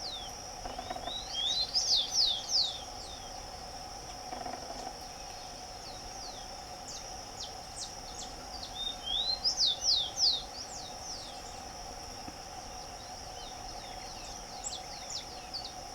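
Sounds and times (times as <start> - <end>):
high insect drone: 0.0 - 15.9.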